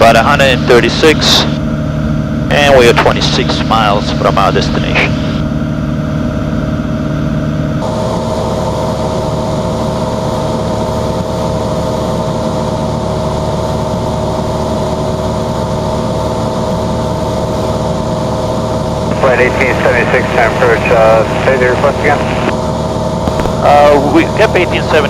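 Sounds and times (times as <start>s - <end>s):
plane engine and propeller droning: 0.0s - 25.0s.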